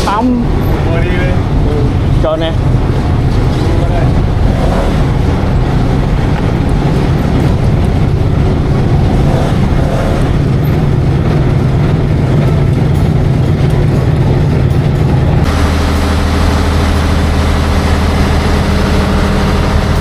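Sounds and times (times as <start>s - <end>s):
heavy ferry engine drone: 0.0s - 20.0s.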